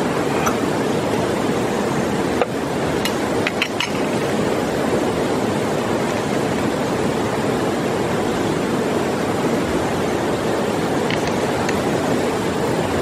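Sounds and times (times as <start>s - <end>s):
river flowing over stones: 0.0s - 13.0s.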